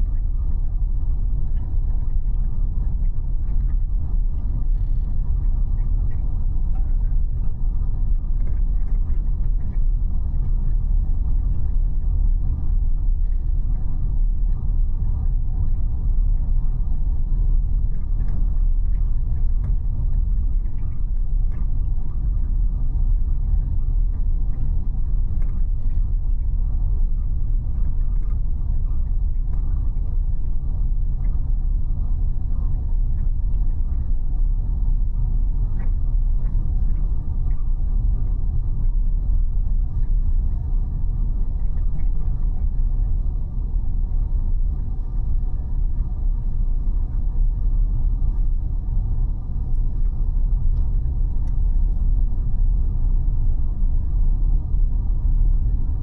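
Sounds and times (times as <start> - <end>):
faint ticks and clicks: 1.4 - 54.8.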